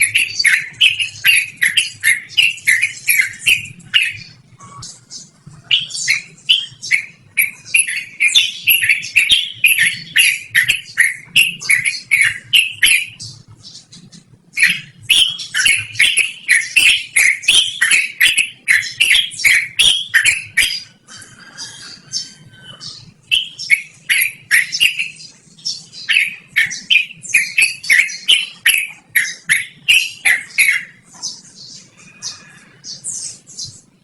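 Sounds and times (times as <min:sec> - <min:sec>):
bird chirping rapidly: 0:00.0 - 0:34.0.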